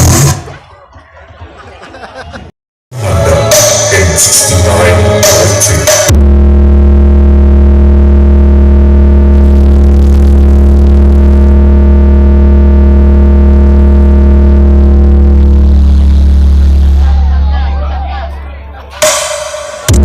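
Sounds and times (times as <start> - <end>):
deep synthesizer bass tone: 2.9 - 20.0.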